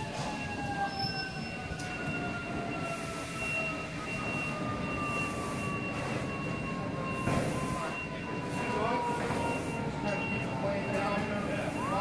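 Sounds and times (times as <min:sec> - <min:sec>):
siren winding down: 0:00.0 - 0:12.0.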